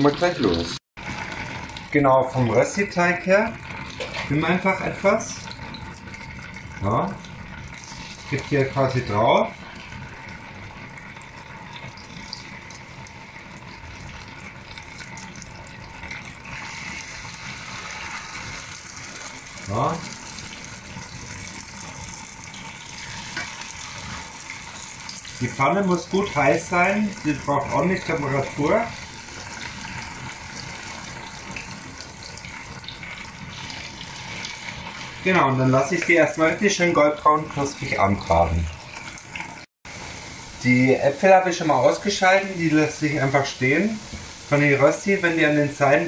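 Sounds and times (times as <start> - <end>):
potato sizzling in hot oil: 0.0 - 46.0.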